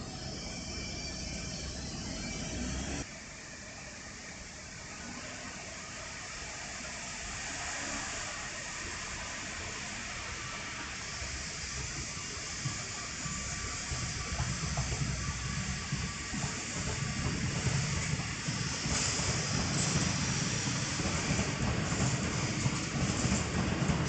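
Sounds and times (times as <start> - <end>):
train rushing hiss: 2.4 - 24.0.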